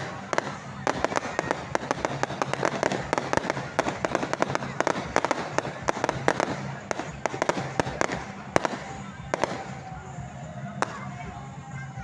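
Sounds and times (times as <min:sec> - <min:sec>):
fireworks cracking and popping: 0:00.0 - 0:11.5.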